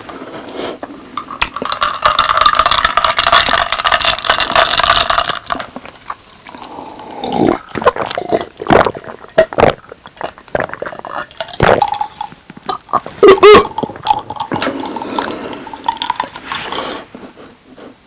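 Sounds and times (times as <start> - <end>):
wet chewing and smacking: 1.2 - 17.0.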